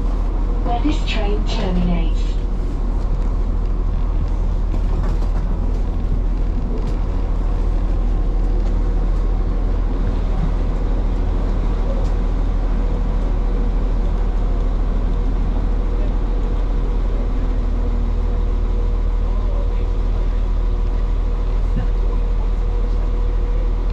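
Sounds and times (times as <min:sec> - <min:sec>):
train engines idling: 0:00.0 - 0:23.9.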